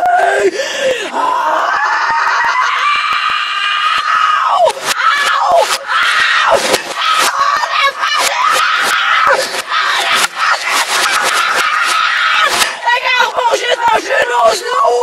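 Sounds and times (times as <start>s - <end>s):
reversed boy screaming: 1.1s - 15.0s.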